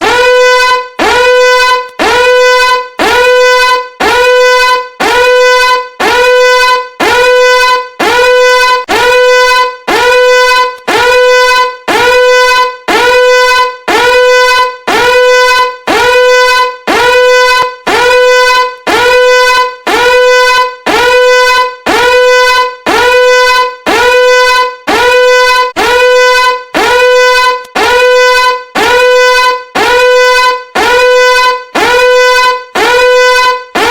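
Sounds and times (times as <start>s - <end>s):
horn-like alarm blaring: 0.0s - 33.9s.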